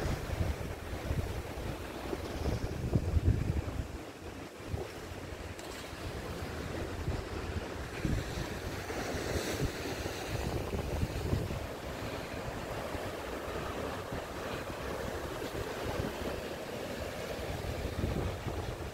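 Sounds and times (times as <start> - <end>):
wind buffeting microphone: 0.0 - 4.0, 6.0 - 16.4, 17.1 - 18.9
sea waves against rocks: 0.0 - 18.9.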